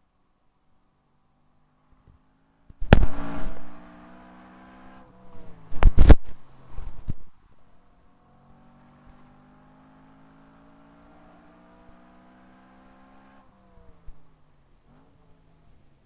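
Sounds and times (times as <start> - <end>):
faint car engine accelerating: 0.0 - 16.0.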